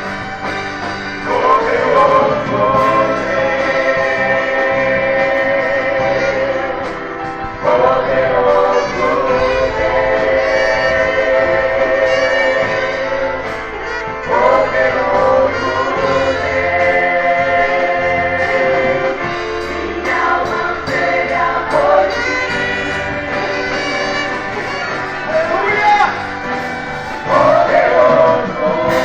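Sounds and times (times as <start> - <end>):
gospel group singing: 0.0 - 29.0
instrumental backing: 0.0 - 29.0.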